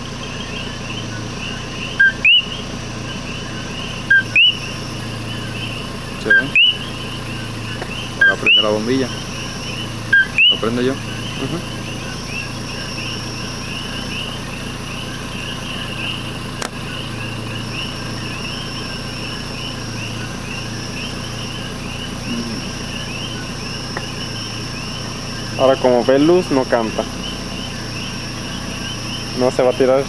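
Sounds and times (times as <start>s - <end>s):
high insect buzz: 0.0s - 30.0s
insects and frogs chirping: 0.0s - 30.0s.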